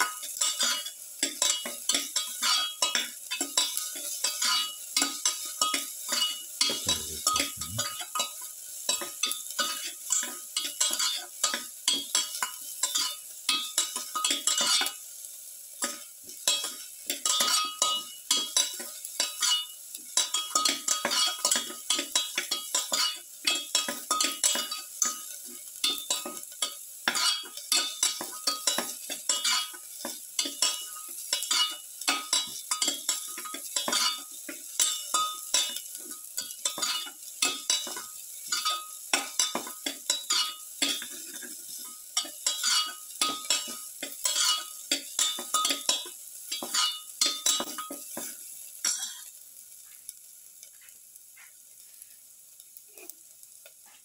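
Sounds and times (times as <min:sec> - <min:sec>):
metal spoon scraping a pan: 0:00.0 - 0:50.0
onions sizzling in oil: 0:00.0 - 0:54.0.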